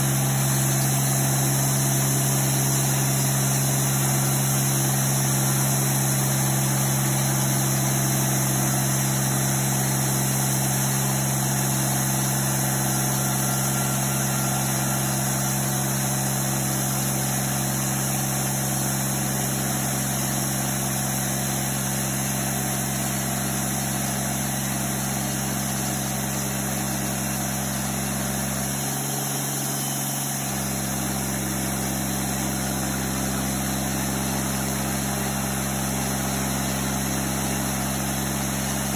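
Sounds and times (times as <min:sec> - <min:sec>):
bandsaw mill sawing log: 0:00.0 - 0:38.9.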